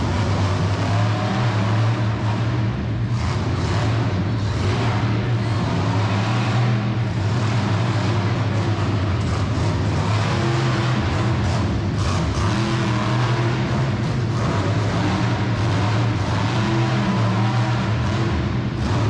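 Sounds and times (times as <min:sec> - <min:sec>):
loud truck engine running: 0:00.0 - 0:19.0.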